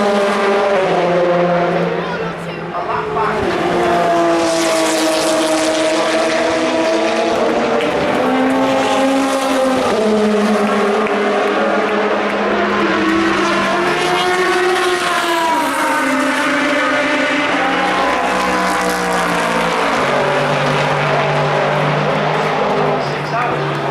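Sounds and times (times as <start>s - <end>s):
race car engines shifting gears: 0.0s - 23.9s.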